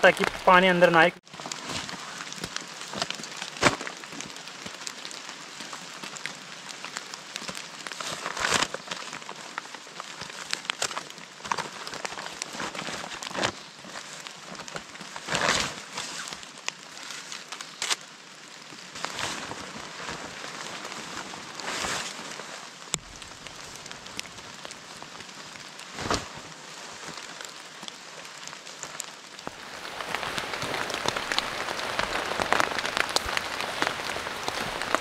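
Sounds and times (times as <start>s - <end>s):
heavy rain falling: 0.0s - 13.4s, 17.6s - 35.0s
plastic tarp rustling and crinkling: 0.0s - 35.0s.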